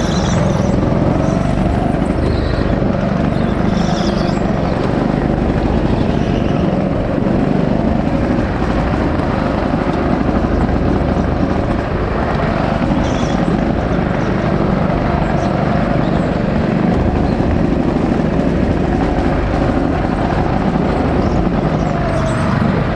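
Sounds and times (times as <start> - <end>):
go-kart motor drone: 0.0 - 22.9.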